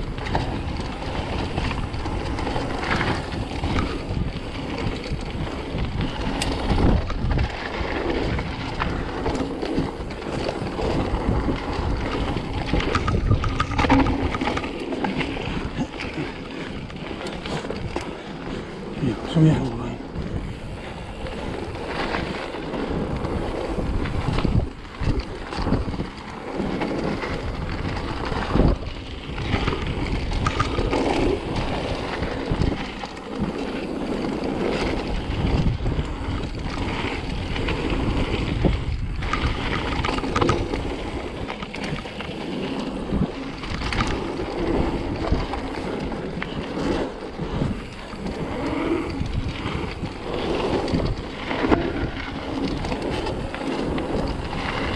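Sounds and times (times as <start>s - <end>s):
mountain bike rumble and rattle: 0.0s - 54.9s
wind buffeting microphone: 0.0s - 54.9s.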